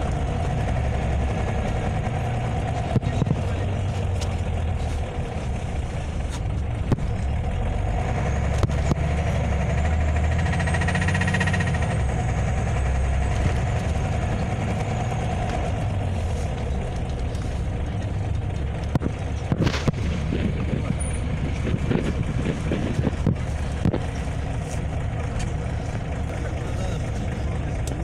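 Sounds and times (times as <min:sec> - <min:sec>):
bus body rattling: 0:00.0 - 0:28.0
bus engine hum: 0:00.0 - 0:28.0.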